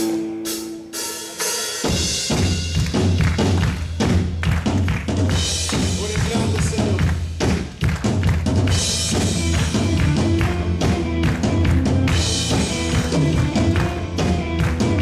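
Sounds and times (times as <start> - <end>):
drum and cymbal hits: 0.0 - 15.0
live band playing: 0.0 - 15.0
steady bass line: 2.0 - 15.0.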